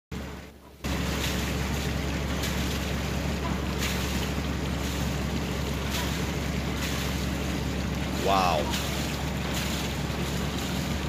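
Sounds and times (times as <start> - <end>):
low motor hum: 0.1 - 11.0.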